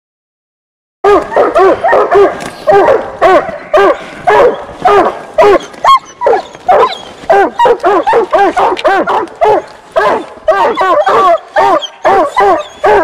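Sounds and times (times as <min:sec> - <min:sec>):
dog barking loudly: 0:01.0 - 0:13.0.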